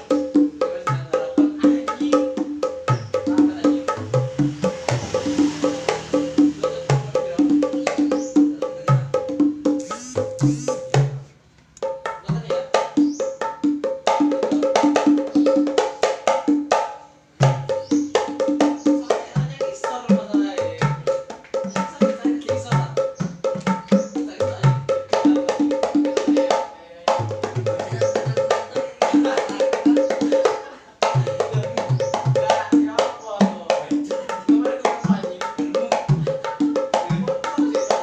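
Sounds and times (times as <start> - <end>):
hand drums played fast: 0.0 - 38.0.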